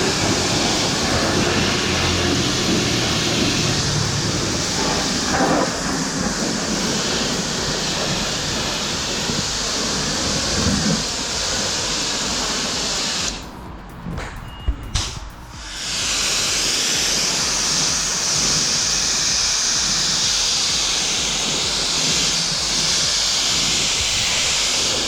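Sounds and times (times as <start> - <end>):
pressure washer spraying: 0.0 - 25.0.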